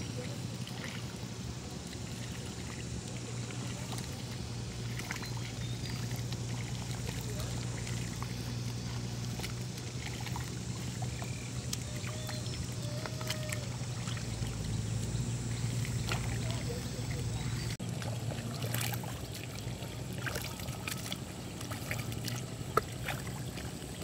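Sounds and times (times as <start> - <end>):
machine engine humming: 0.0 - 24.0
water pouring and splashing: 0.0 - 24.0.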